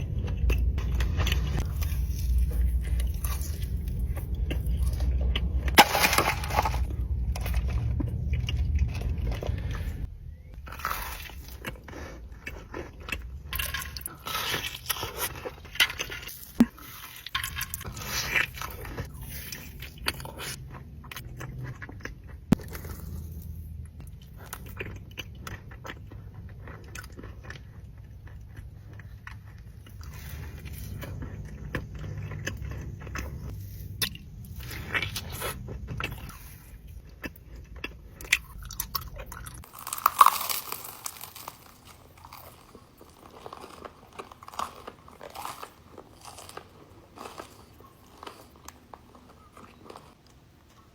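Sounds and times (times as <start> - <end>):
chewing crunchy food: 0.0 - 50.9
steady low hum: 0.0 - 50.9.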